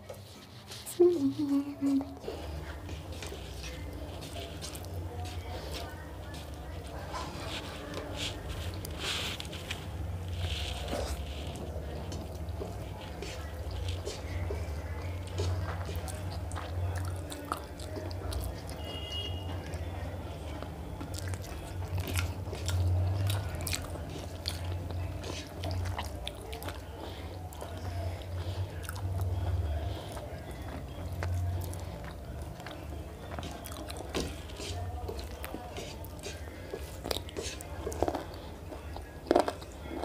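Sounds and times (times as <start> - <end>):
people chewing food: 0.0 - 40.0.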